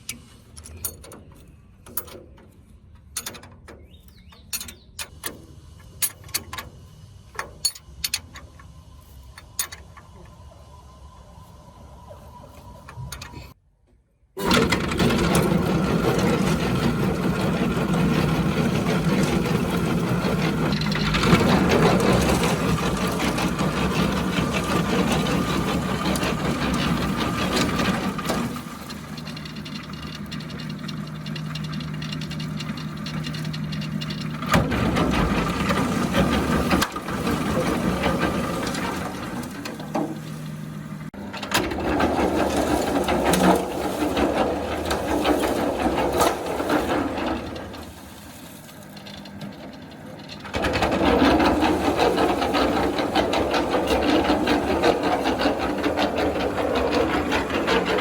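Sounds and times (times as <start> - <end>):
gearbox mechanical rattle: 0.0 - 8.7, 14.4 - 58.0.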